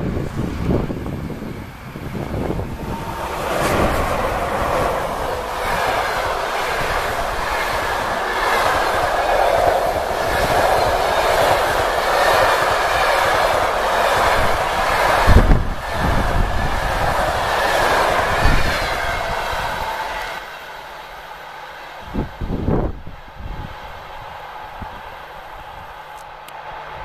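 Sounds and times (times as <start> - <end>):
train wheels rushing on rails: 0.0 - 27.0.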